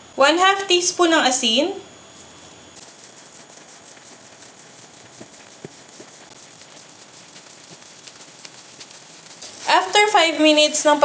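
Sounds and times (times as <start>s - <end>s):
plastic glove crinkling: 2.1s - 11.0s
dough squishing: 2.2s - 11.0s.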